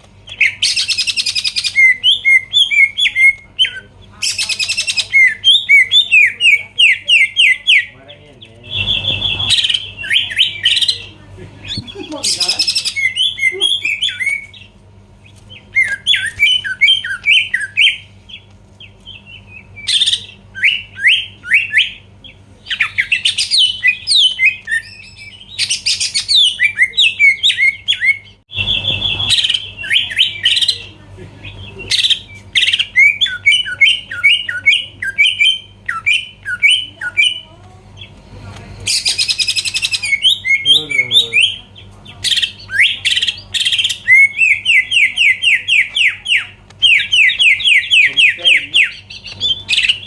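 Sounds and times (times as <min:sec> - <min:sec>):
faint low hum: 0:00.0 - 0:50.0
harsh bird notes: 0:00.2 - 0:38.2, 0:38.8 - 0:50.0
bird chirping in phrases: 0:00.2 - 0:50.0.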